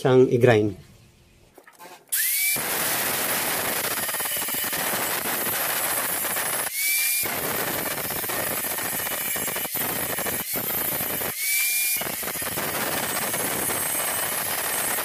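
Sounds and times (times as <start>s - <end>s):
angle grinder grinding metal: 2.1s - 15.0s.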